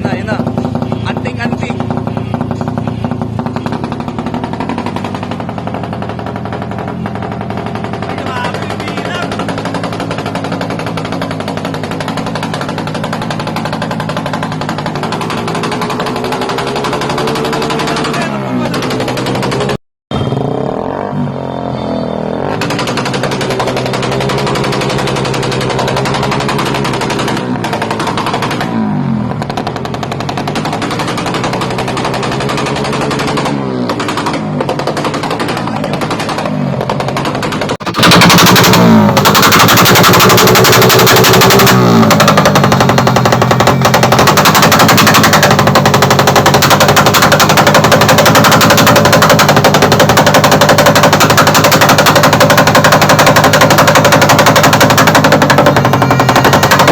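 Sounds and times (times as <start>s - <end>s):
exhaust backfiring crackle: 0.0s - 21.3s, 22.3s - 56.9s
motorcycle engine revving: 0.0s - 56.9s.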